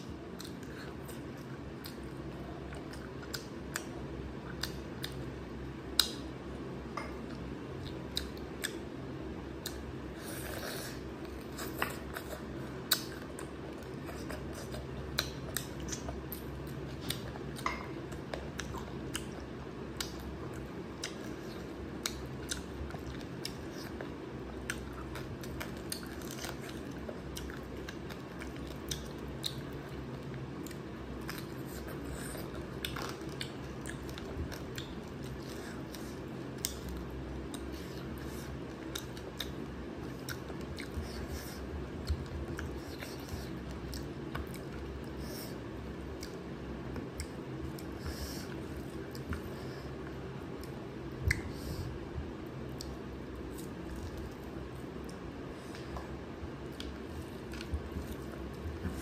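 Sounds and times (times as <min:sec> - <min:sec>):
chewing and wet mouth sounds: 0:00.0 - 0:06.4, 0:07.0 - 0:59.0
steady low hum: 0:00.0 - 0:59.0.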